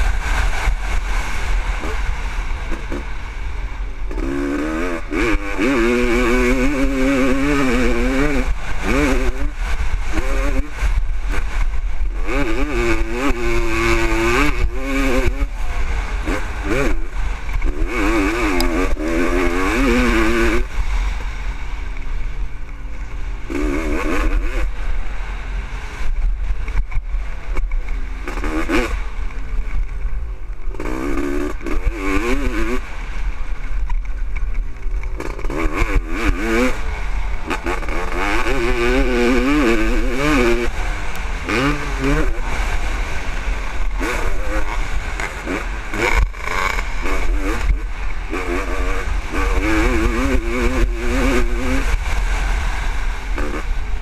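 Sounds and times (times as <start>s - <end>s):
low wind rumble: 0.0s - 54.0s
two-stroke motorcycle engine revving: 0.0s - 54.0s.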